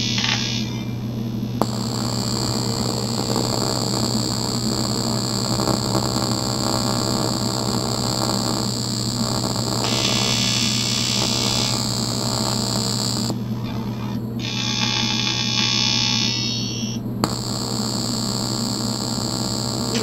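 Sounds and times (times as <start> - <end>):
welding arc buzzing: 0.0 - 20.0.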